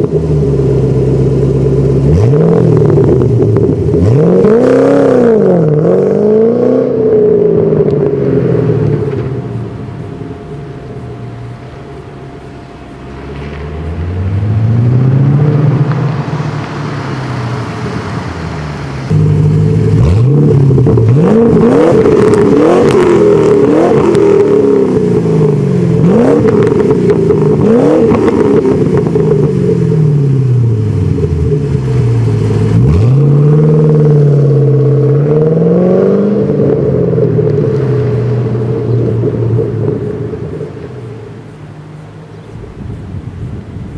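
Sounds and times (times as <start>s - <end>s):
car engine revving: 0.0s - 43.4s.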